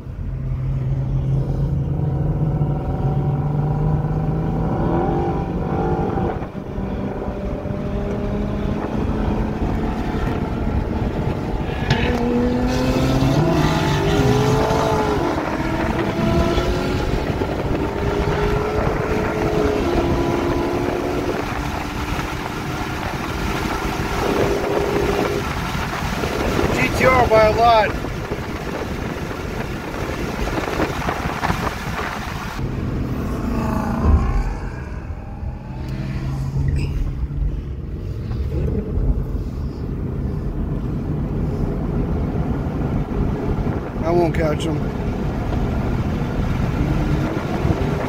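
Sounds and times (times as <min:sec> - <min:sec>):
road and wind noise: 0:00.0 - 0:48.0
car engine accelerating: 0:00.1 - 0:48.0.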